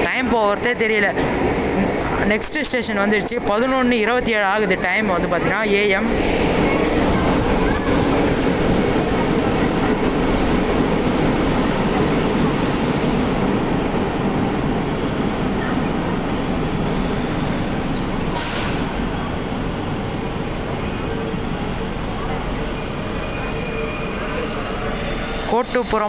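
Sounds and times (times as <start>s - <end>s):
train wheels rumbling: 0.0s - 25.5s.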